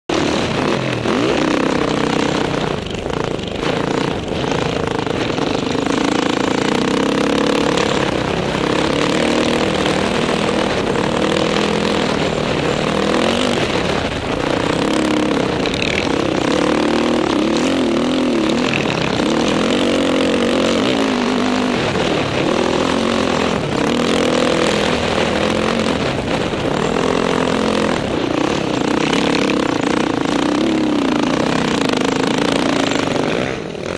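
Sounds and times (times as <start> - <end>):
dirt bike engine revving: 0.1 - 33.9
wind noise: 0.1 - 33.9.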